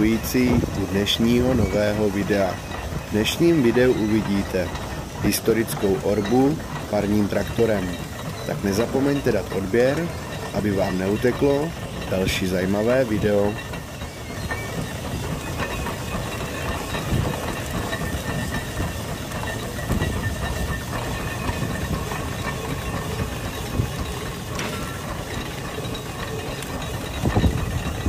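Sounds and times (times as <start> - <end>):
steam engine exhaust beats: 0.0 - 28.0
steam hissing: 0.0 - 28.0.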